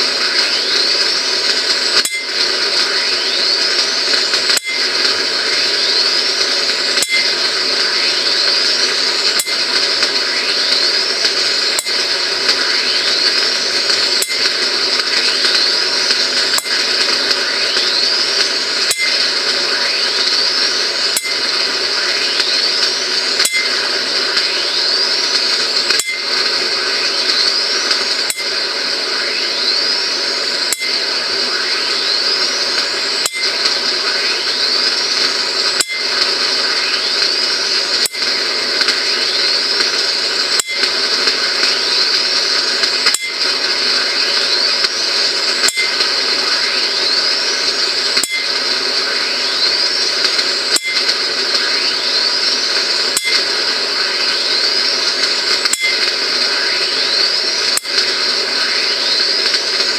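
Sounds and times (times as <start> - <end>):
electric discharge cracking: 0.0 - 59.9
rising whine: 0.0 - 59.9
steady high hiss: 0.0 - 59.9.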